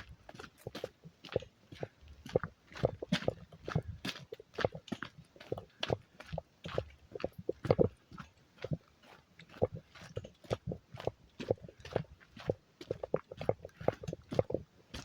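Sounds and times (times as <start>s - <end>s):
footsteps on a hiking trail: 0.0s - 15.0s.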